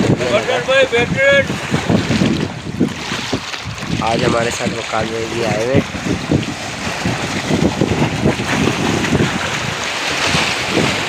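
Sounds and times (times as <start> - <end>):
waves washing against rocks: 0.0 - 11.0
wind buffeting microphone: 0.0 - 11.0.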